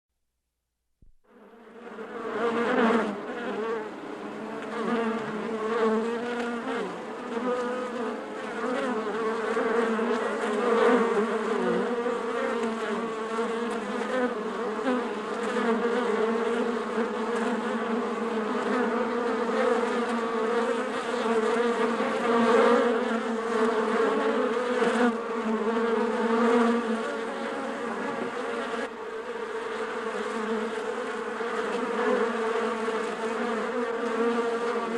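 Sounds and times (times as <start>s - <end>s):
bees buzzing: 1.4s - 34.9s.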